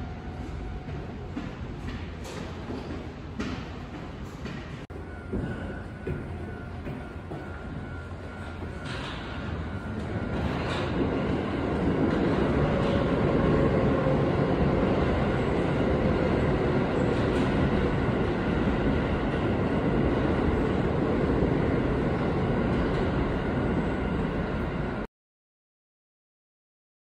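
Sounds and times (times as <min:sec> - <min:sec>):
train wheels rumbling on rail: 0:00.0 - 0:25.1.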